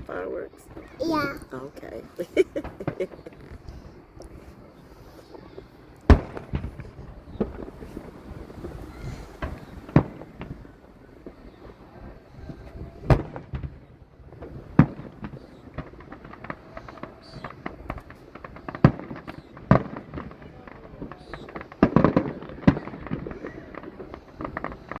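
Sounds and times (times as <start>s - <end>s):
fireworks bangs: 0.0s - 25.0s
fireworks crackling pops: 0.6s - 25.0s.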